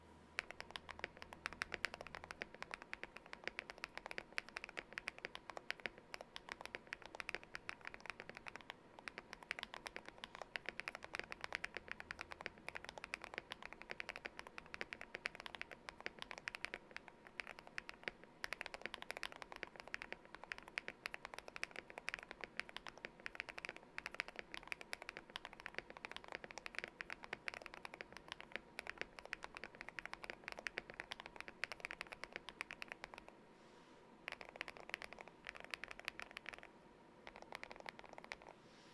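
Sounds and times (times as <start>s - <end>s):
mechanical keyboard typing: 0.4s - 33.3s, 34.3s - 38.5s.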